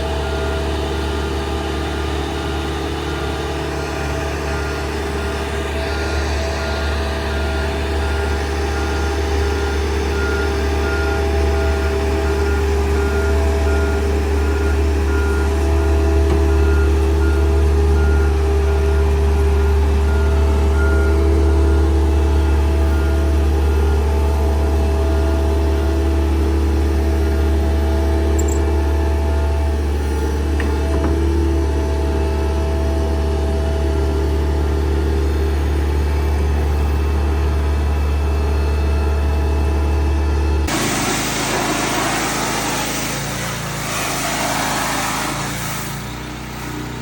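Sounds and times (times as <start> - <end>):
travel lift engine hum: 0.0 - 40.8.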